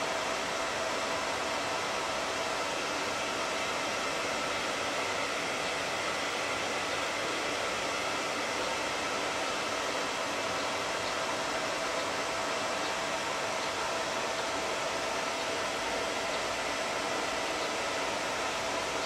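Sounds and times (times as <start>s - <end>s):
air purifier fan running: 0.0s - 19.0s.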